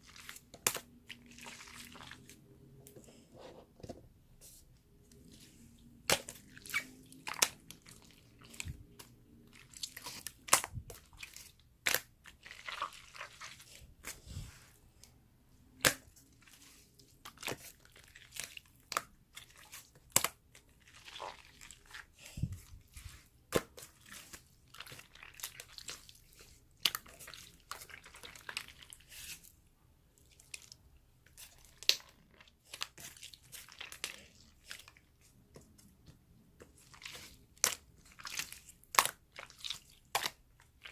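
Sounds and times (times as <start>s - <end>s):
slime crackling squelches: 0.0s - 3.1s, 4.8s - 40.9s.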